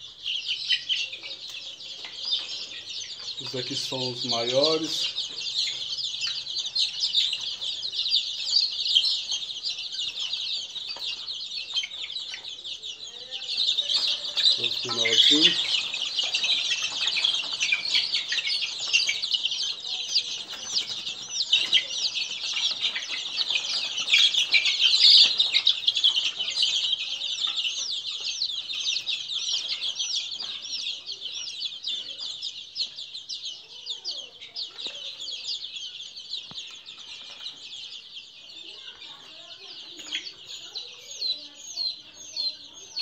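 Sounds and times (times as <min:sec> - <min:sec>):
chicks peeping: 0:00.0 - 0:43.0.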